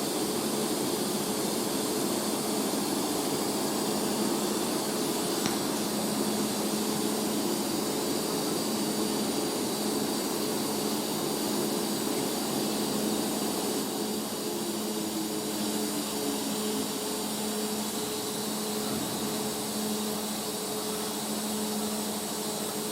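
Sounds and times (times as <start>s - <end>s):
welding arc hissing: 0.0s - 22.6s.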